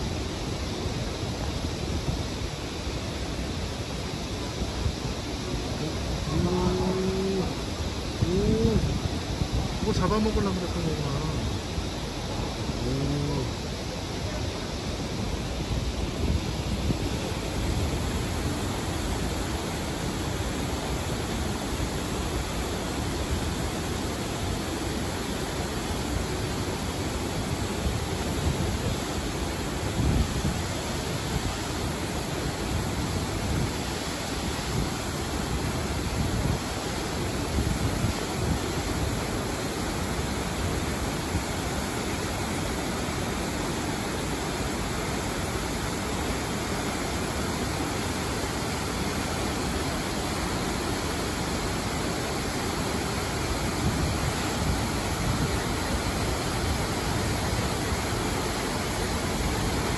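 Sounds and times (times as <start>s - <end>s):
waterfall rushing into stream: 0.0s - 59.9s
wind gusts on microphone: 0.0s - 59.9s.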